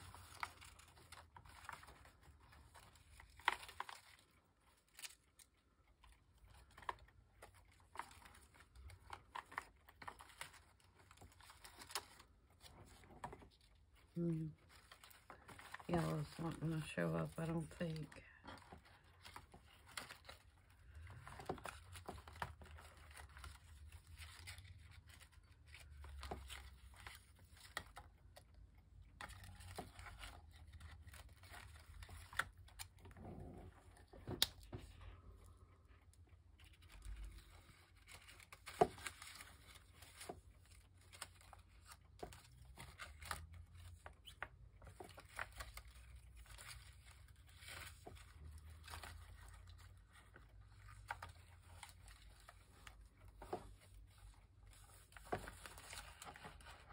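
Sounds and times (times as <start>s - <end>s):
paper rustling: 0.0s - 56.9s.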